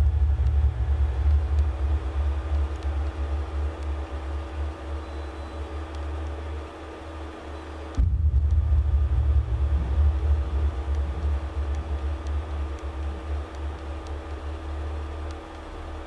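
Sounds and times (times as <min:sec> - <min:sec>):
low wavering rumble: 0:00.0 - 0:05.8, 0:08.0 - 0:16.0
electrical hum: 0:00.0 - 0:16.0.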